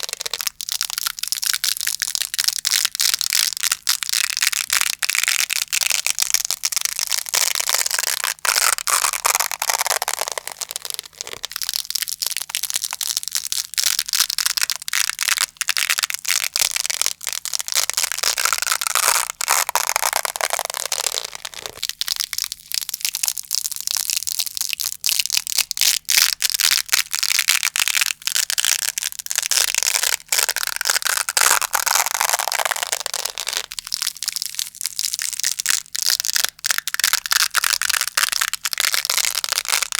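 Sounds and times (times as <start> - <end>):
velcro being pulled apart: 0.0 - 39.9.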